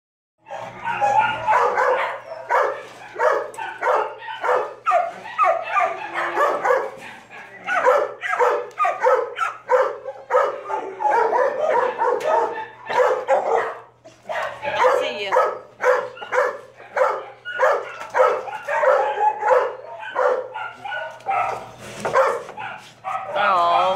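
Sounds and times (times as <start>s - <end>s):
dogs barking: 0.4s - 23.9s.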